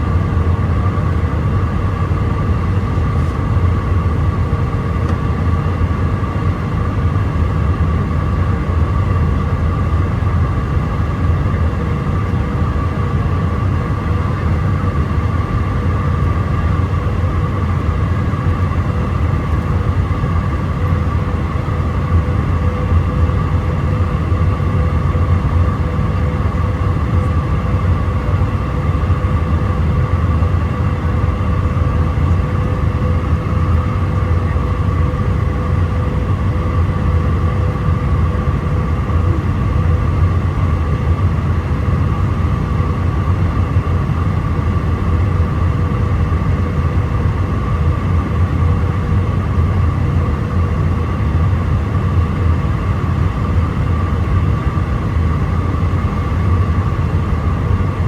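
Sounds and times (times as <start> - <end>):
airplane cabin rumble: 0.0 - 58.0
jet engine whine: 0.0 - 58.0.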